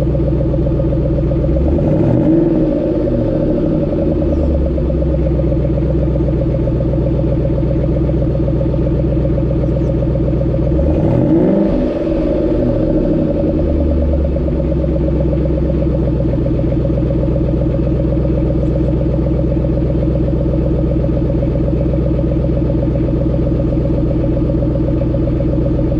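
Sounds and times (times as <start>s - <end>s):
car engine idling: 0.0s - 25.9s
engine rev: 0.0s - 25.9s.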